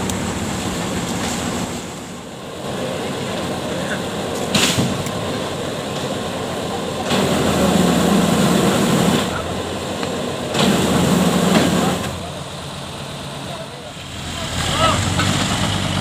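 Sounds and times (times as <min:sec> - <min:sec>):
heavy truck engine running: 0:00.0 - 0:16.0.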